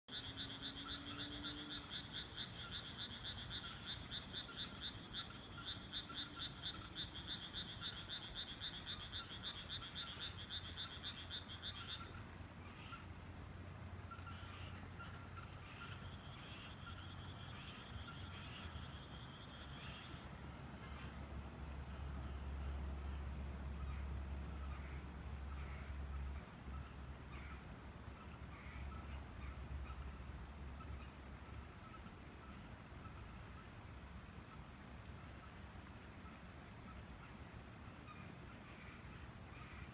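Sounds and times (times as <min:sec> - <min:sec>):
frogs croaking in chorus: 0:00.1 - 0:39.9.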